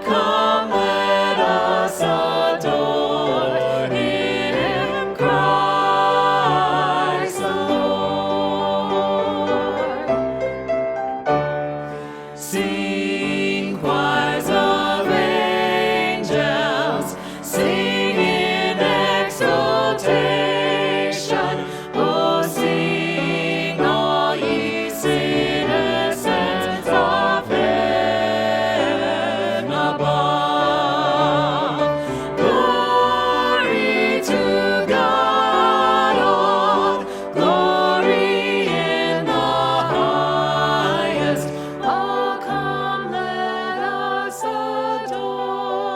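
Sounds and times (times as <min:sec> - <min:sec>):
choir singing with vibrato: 0:00.0 - 0:45.9.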